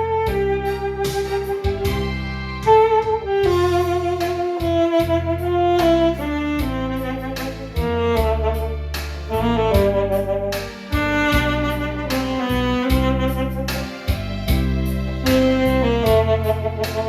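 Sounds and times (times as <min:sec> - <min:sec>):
instrumental music with held melody: 0:00.0 - 0:17.0.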